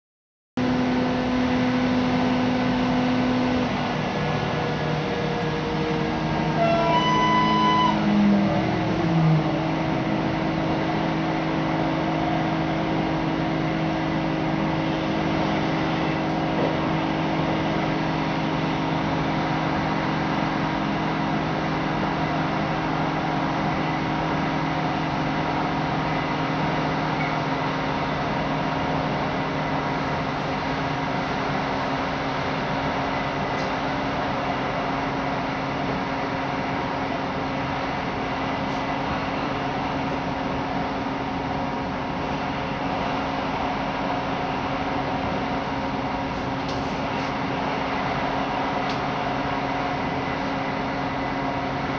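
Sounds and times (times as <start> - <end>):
train wheels rumbling on rails: 0.6 - 51.9.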